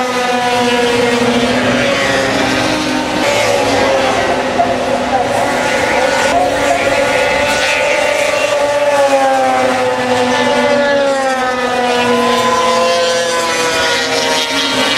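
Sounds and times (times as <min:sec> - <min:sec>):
snowmobile engines at high revs: 0:00.0 - 0:14.9.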